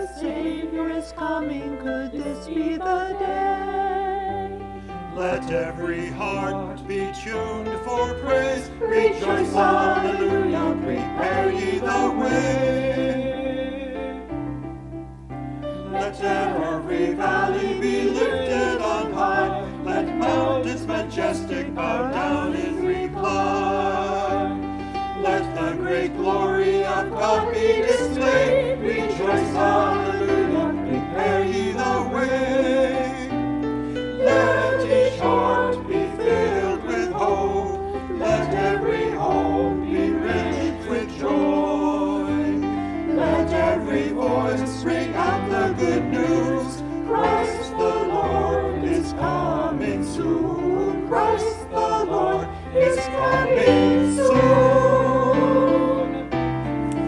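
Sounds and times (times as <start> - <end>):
choir singing a worship song: 0.0 - 14.4, 15.6 - 57.0.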